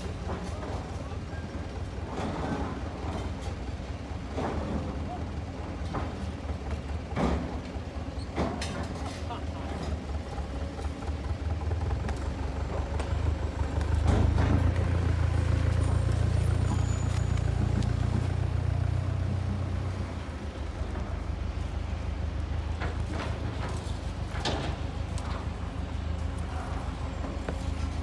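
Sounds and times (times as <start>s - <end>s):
diesel truck engines rumbling: 0.0s - 28.0s.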